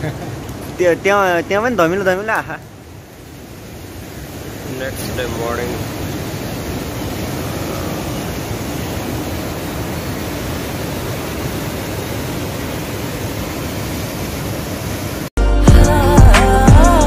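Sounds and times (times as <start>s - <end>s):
river rapids rushing over boulders: 0.0s - 15.3s.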